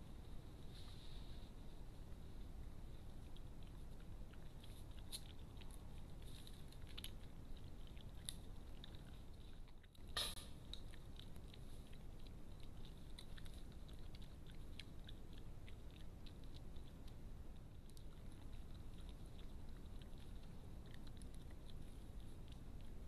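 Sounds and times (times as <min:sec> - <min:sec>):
low steady hiss: 0:00.0 - 0:23.0
badgers chewing food: 0:00.1 - 0:23.0.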